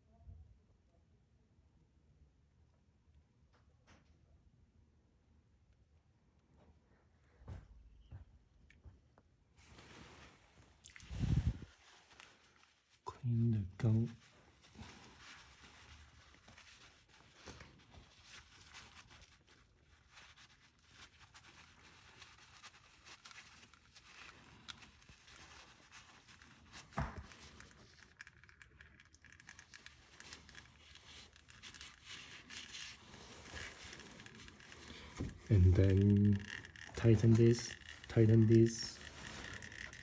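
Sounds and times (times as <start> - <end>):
faint rustling handling noises: 6.4 - 40.0.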